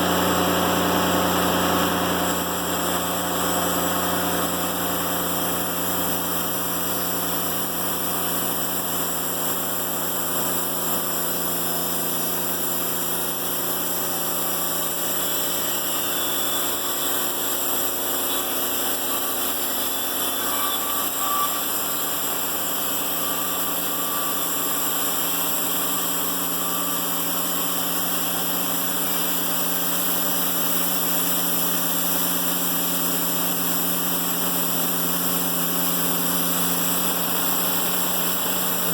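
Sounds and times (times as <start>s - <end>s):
band sawmill cutting log: 0.0s - 38.9s.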